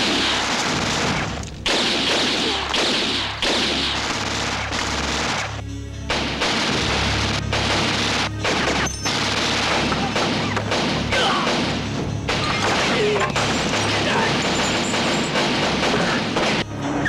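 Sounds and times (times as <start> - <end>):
film score with low note: 0.0 - 17.0.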